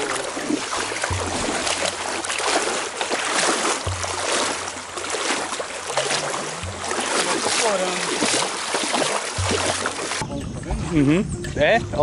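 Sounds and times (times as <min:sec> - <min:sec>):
legs wading through water: 0:00.0 - 0:10.3
low dull bump: 0:01.0 - 0:10.7.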